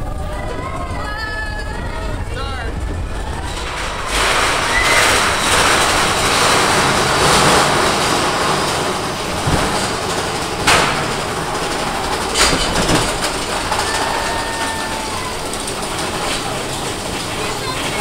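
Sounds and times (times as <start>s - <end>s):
roller coaster wheels rumbling: 0.0s - 18.0s.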